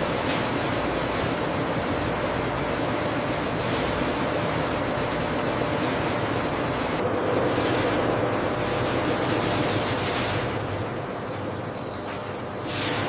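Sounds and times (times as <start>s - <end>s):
processing machinery running: 0.0s - 13.0s.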